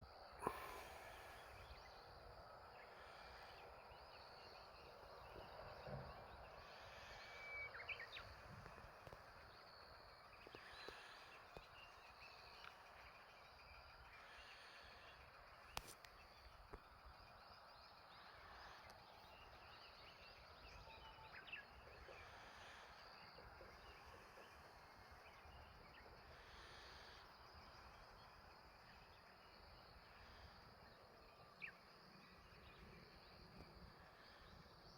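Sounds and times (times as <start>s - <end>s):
birds chirping: 0.4s - 34.9s.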